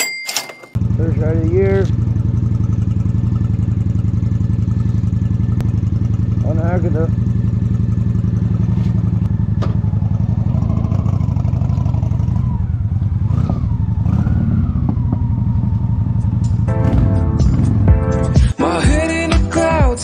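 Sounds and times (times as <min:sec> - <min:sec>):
motorcycle engine revving: 0:00.8 - 0:18.4.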